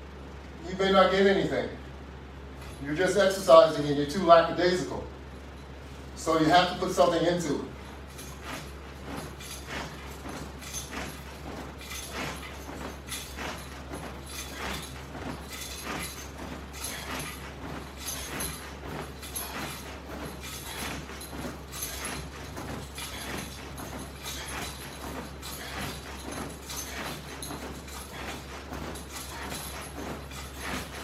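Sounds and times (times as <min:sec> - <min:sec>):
rhythmic exercise swishing: 0:00.0 - 0:31.0
steady low hum: 0:00.0 - 0:31.0.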